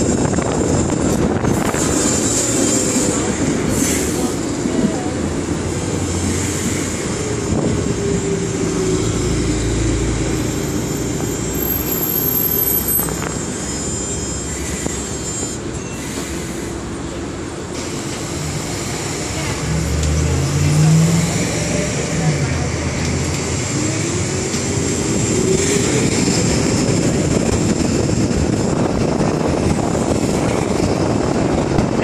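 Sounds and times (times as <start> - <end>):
streetcar wheels and motor rumbling: 0.0 - 32.0.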